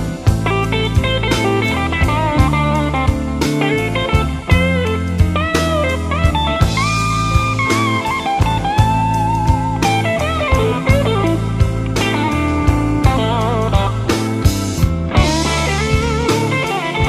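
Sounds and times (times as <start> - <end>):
electric blues band playing: 0.0 - 17.0
electric guitar solo: 0.0 - 17.0.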